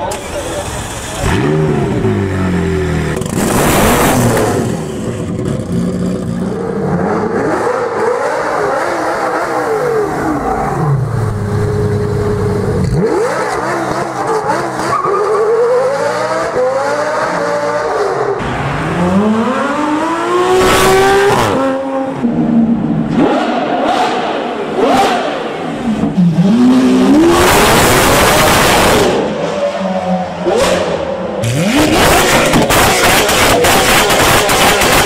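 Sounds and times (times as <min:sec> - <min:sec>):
sports car engines revving: 0:00.0 - 0:35.0.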